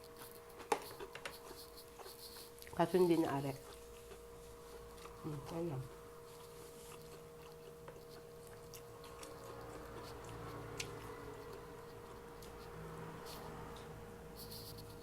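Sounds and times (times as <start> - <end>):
faint steady hum: 0.0 - 15.0
people chewing: 0.0 - 15.0.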